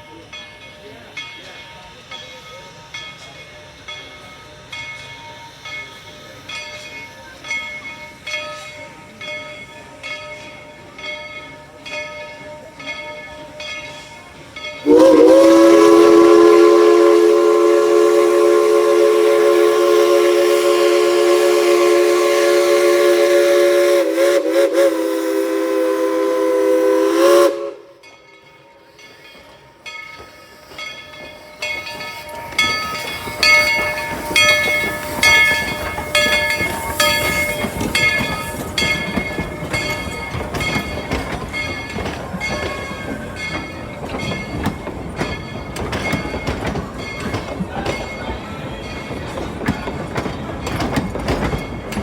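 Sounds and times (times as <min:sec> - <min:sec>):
locomotive bell ringing: 0:00.0 - 0:24.8, 0:26.8 - 0:52.0
locomotive rumble: 0:00.0 - 0:52.0
steam locomotive chime whistle: 0:00.0 - 0:52.0.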